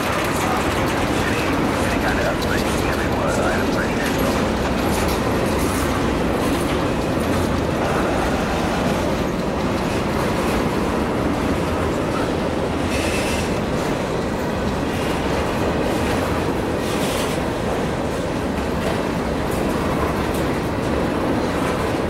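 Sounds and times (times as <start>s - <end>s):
clickety-clack over rail joints: 0.0s - 22.0s
train wheels rumbling on rails: 0.0s - 22.0s.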